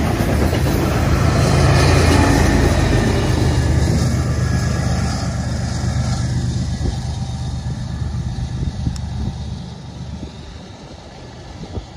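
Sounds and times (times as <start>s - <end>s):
locomotive engine rumble: 0.0s - 11.9s.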